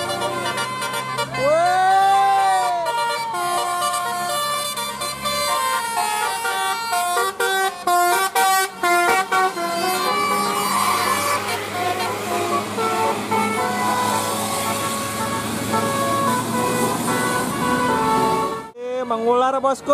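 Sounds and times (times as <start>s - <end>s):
multi-tone air horn playing a tune: 0.0s - 1.6s, 2.6s - 18.8s.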